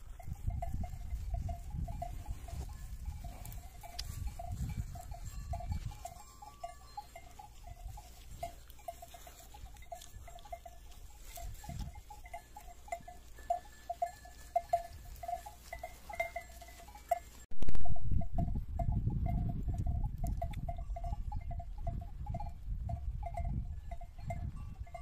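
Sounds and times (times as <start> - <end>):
flock bells clinking: 0.0 - 25.0.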